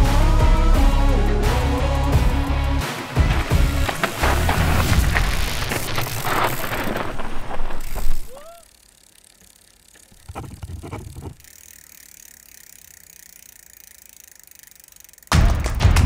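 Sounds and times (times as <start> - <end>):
mountain bike rattles and clicks: 0.0 - 16.0.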